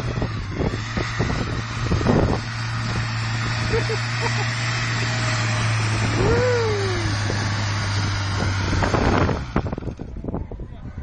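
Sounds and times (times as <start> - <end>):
rising and falling tone: 0.0 - 10.1
vehicle engine running: 0.0 - 11.0
wind and road noise: 0.0 - 11.0.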